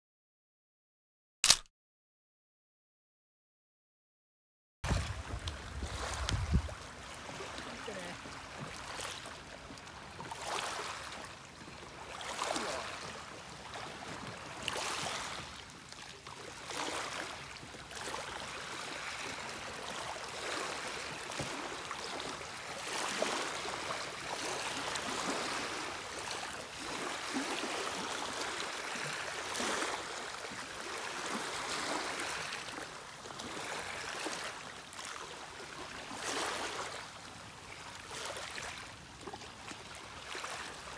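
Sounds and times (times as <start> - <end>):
small waves lapping on shore: 4.9 - 40.9.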